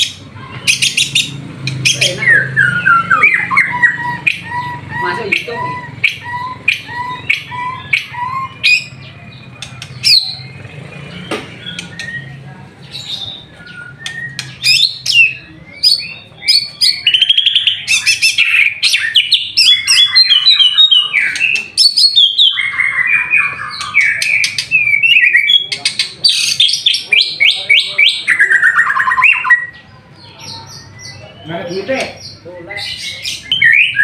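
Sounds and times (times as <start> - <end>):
bird singing varied song: 0.0 - 34.0.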